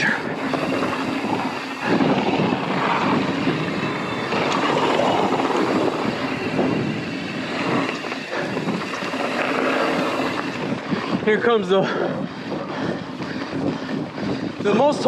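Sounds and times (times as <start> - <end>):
bike rattling over trail: 0.0 - 15.0
bike tyres rolling on dirt: 0.0 - 15.0
wind buffeting microphone: 0.0 - 15.0.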